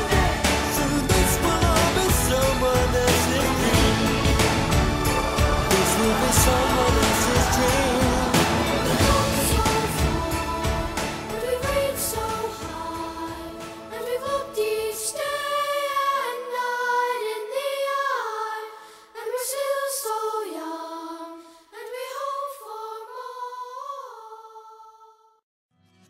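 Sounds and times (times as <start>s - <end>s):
choir singing unaccompanied: 0.0s - 25.2s.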